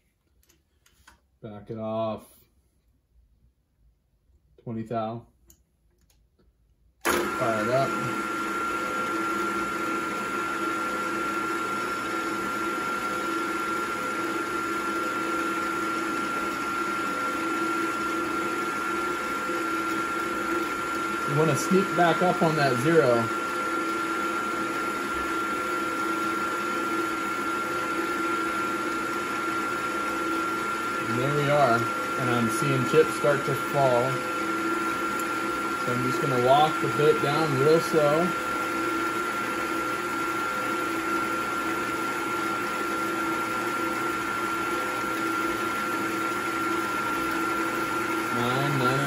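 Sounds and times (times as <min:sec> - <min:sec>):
milling machine spindle whine: 0:07.0 - 0:49.0.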